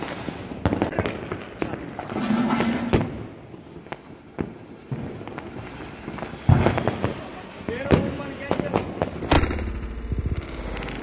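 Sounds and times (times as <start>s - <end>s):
background noise: 0.0s - 11.0s
firecrackers popping: 0.0s - 11.0s.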